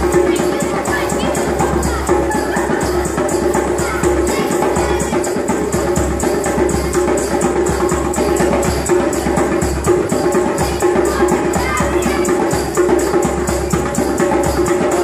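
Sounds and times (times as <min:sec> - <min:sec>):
hand drum rhythm: 0:00.0 - 0:15.0.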